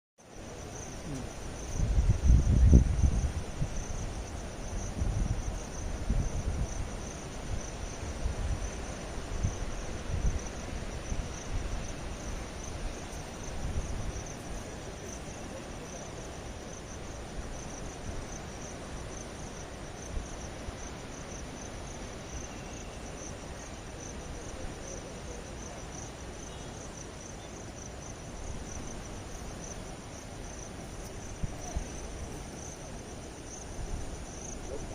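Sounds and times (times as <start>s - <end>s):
crickets chirring: 0.2s - 34.9s.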